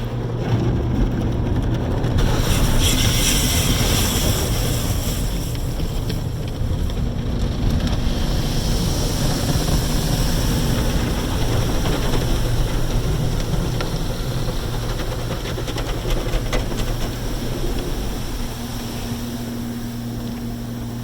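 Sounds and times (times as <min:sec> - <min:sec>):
water spraying and rushing: 0:00.0 - 0:21.0.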